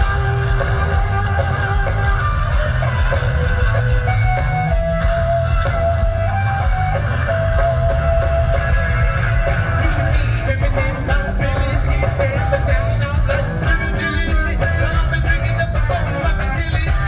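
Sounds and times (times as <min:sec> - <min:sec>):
electric guitar held notes: 0:00.0 - 0:17.0
live rock band: 0:00.0 - 0:17.0.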